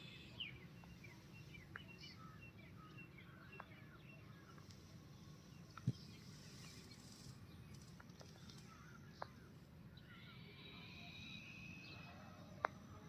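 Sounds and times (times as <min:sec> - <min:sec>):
faint bird chirps: 0:00.0 - 0:12.8
outdoor background noise: 0:00.0 - 0:13.0.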